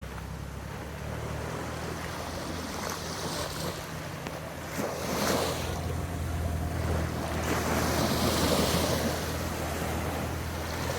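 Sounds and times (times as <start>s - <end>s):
water splashing in waves: 0.0s - 10.9s.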